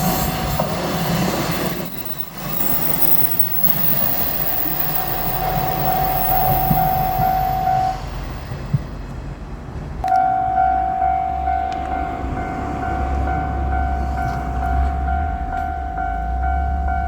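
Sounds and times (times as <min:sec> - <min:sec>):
diesel railcar running: 0:00.0 - 0:17.0
level-crossing alarm ringing: 0:00.8 - 0:08.4, 0:10.0 - 0:17.0.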